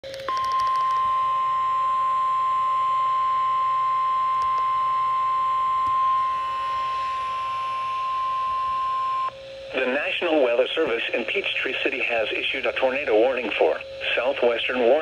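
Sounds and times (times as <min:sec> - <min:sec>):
steady high-pitched alarm tone: 0:00.2 - 0:15.0.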